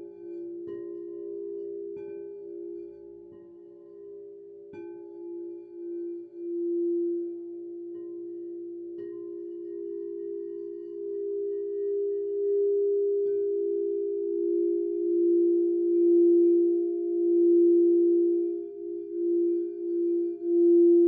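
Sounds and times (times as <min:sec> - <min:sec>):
crystal singing bowls ringing: 0:00.0 - 0:21.0.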